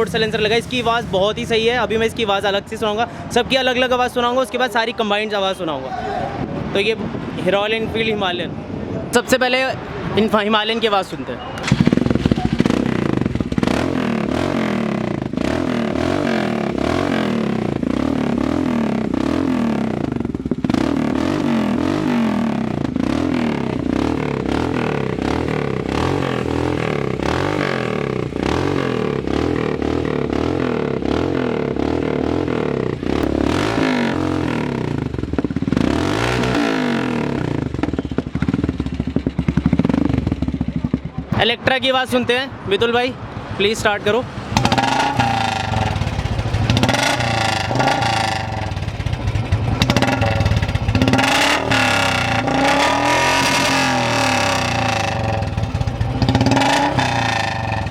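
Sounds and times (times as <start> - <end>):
motorcycle engine idling and revving: 0.0 - 5.6, 11.6 - 42.2, 42.8 - 57.9.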